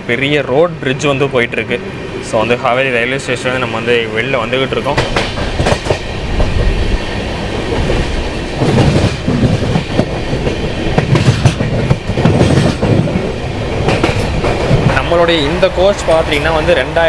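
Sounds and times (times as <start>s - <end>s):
train rumble: 0.0s - 17.0s
train wheels clacking: 1.9s - 17.0s.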